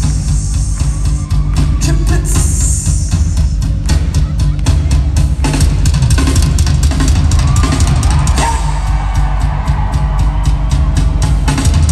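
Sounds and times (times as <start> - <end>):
hard-hit drumming: 0.0 - 11.9
rock band playing live: 0.0 - 11.9.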